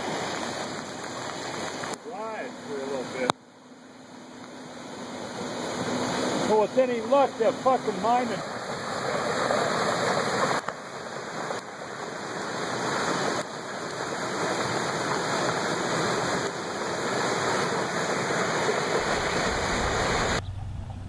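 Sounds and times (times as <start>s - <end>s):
flood water rushing: 0.0s - 3.3s, 4.3s - 20.4s.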